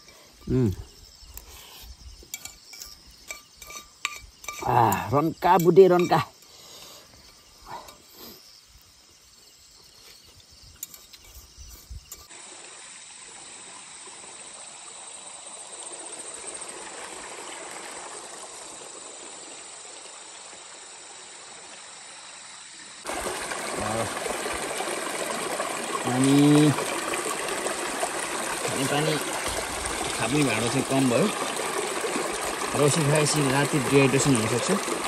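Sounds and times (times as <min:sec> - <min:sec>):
stream running over rocks: 0:00.0 - 0:35.0.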